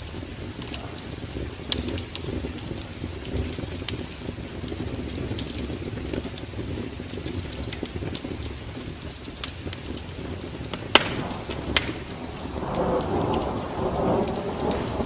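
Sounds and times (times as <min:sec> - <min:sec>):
wood fire crackling in a fireplace: 0:00.0 - 0:15.0.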